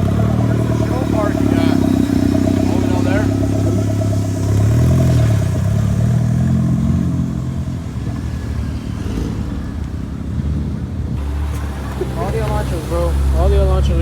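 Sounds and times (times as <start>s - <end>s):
vehicle engine accelerating hard: 0.0s - 14.0s.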